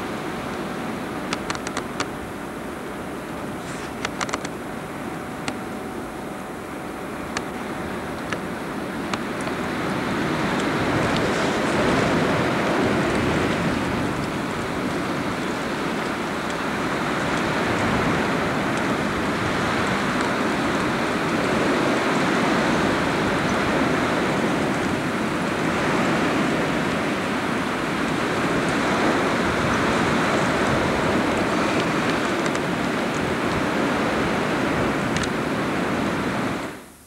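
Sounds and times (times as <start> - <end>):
wind on microphone: 0.0 - 36.8.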